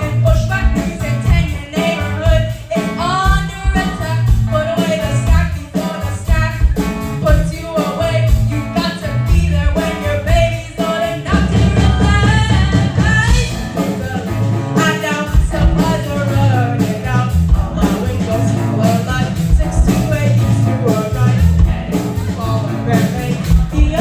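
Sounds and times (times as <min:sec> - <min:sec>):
bass guitar: 0:00.0 - 0:24.0
drums: 0:00.0 - 0:24.0
electric guitar: 0:00.0 - 0:24.0
woman singing: 0:00.0 - 0:24.0.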